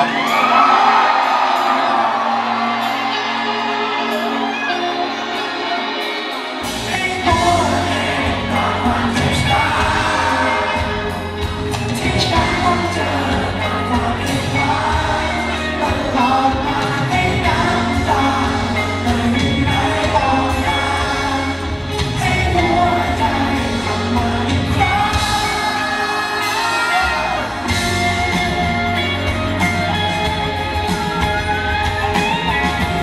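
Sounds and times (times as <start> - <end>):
live pop-rock band: 0.0 - 33.0
lead vocal singing: 4.2 - 33.0.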